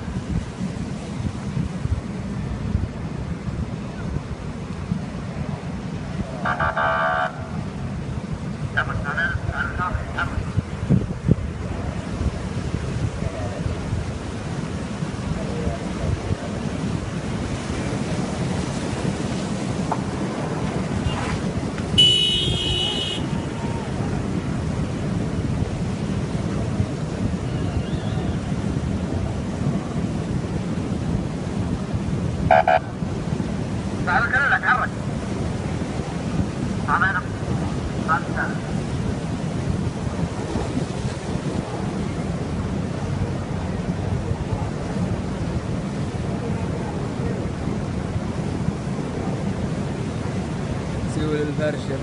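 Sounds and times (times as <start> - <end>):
floodwater rushing: 0.0 - 52.0
wind on microphone: 0.0 - 52.0.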